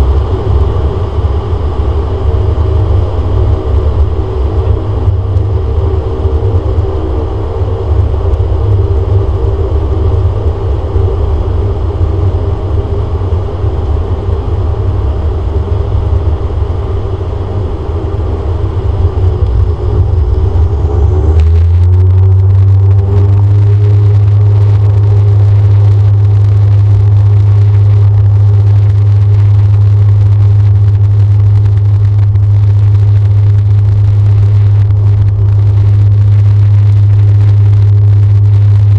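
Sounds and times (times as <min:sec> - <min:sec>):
engines spooling up whine: 0:00.0 - 0:38.9
turboprop propeller drone: 0:00.0 - 0:38.9.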